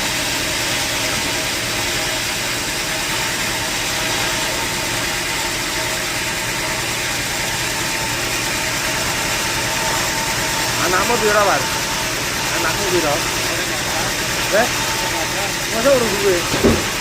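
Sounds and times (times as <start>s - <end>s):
machinery whine: 0.0s - 17.0s.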